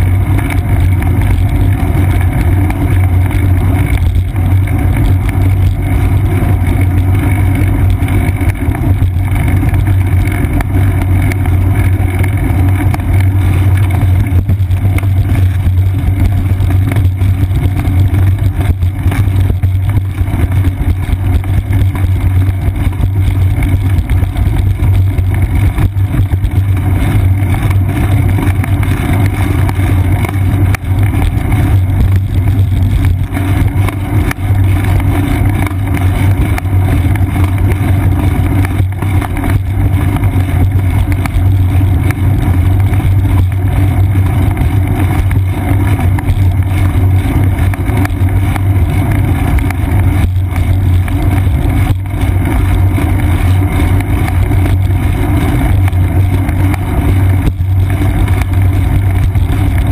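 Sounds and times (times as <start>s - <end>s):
bicycle rolling on concrete: 0.0s - 59.9s
wind rumble: 0.0s - 59.9s.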